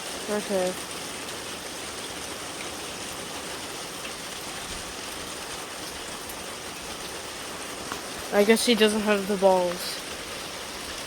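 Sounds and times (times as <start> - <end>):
steady rain hissing: 0.0 - 11.0.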